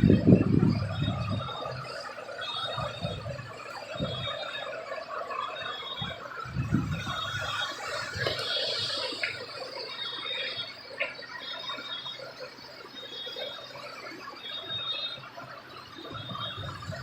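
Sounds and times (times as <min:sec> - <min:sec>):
high electronic beeps: 0:00.0 - 0:17.0
rushing background noise: 0:00.0 - 0:17.0.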